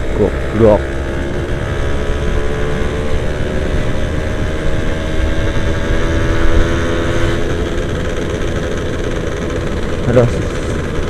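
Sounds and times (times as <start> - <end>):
two-stroke engine running: 0.0 - 11.0.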